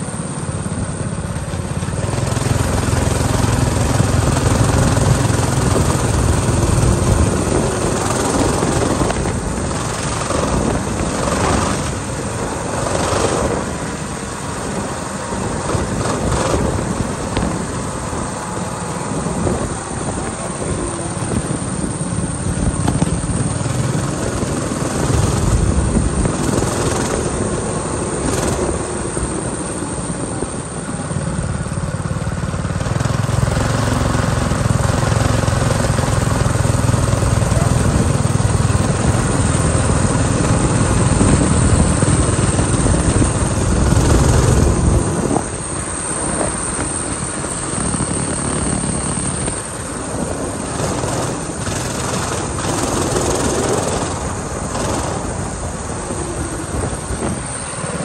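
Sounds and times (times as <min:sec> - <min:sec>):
minibike engine running: 0:00.0 - 0:58.0
steady rush of noise: 0:00.0 - 0:58.0.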